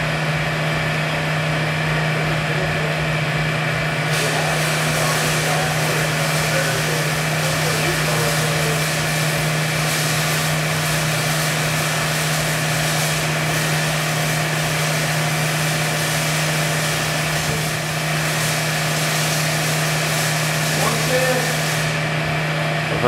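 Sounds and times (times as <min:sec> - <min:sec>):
hydraulic machine humming: 0:00.0 - 0:23.0.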